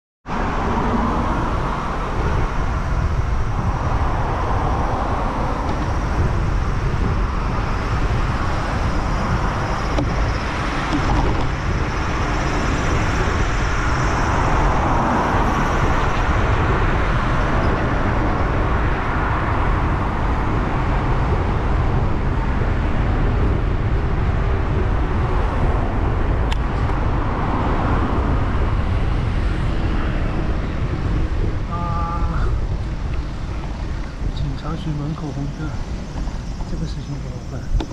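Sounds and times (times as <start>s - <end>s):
low traffic rumble: 0.2s - 37.9s
cars passing: 0.3s - 37.9s.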